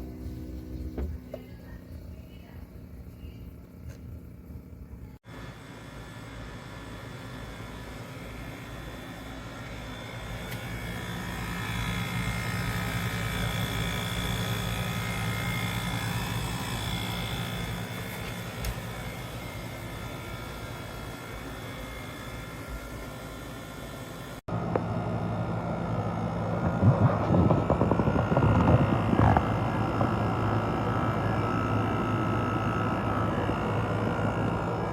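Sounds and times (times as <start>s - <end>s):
air conditioner humming: 0.0s - 34.9s.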